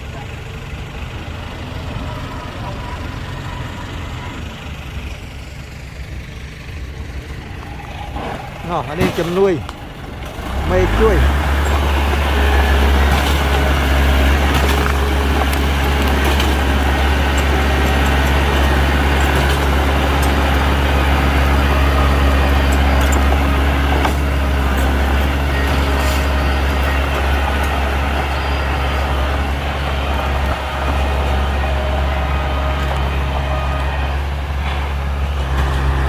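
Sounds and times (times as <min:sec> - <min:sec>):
heavy diesel engine droning: 0:00.0 - 0:36.0.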